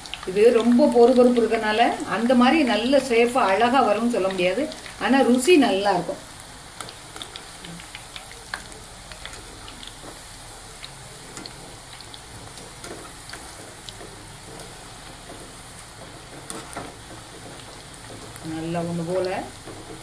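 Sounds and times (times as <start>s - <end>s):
deep-frying sizzle with crackles: 0.0s - 20.0s.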